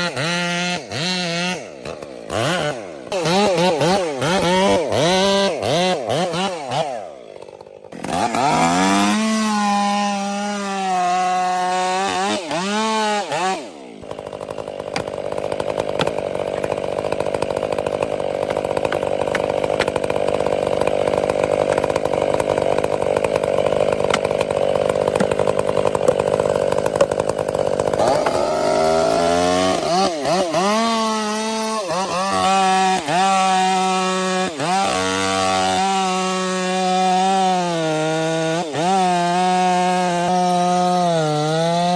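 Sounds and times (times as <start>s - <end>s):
chainsaw cutting tree trunk: 0.0s - 41.9s
chainsaw revving: 0.0s - 41.9s.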